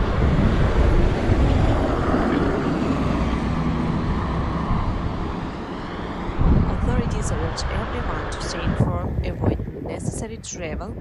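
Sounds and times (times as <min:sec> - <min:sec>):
rushing vehicle motor noise: 0:00.0 - 0:09.8.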